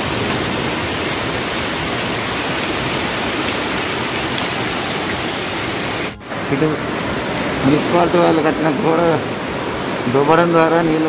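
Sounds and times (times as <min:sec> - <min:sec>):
heavy rain on standing water: 0:00.0 - 0:11.0.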